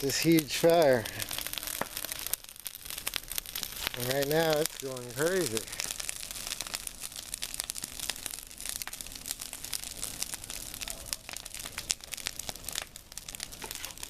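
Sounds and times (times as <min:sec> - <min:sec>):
fire crackling and popping: 0:00.0 - 0:14.0
fire hissing: 0:00.0 - 0:14.0.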